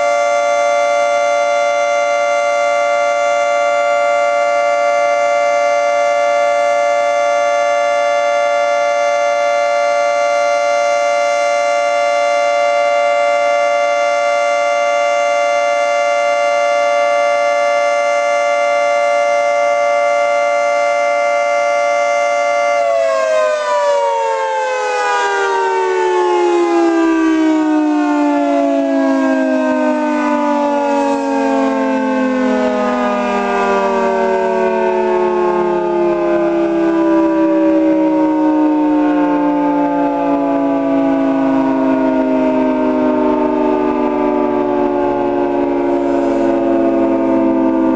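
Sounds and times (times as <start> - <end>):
two-tone warning siren: 0.0 - 47.9.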